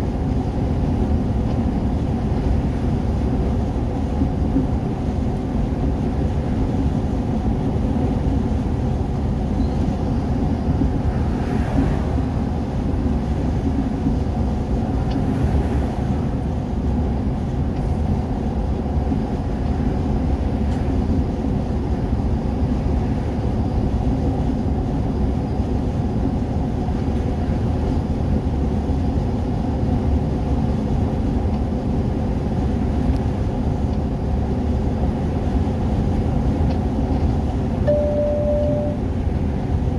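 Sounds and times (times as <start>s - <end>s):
engine drone and tyre noise: 0.0s - 39.9s.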